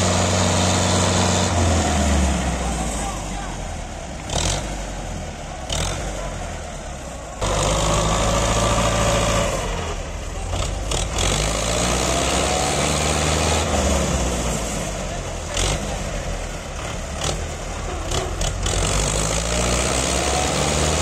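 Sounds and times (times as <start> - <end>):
tractor diesel engine labouring: 0.0 - 21.0.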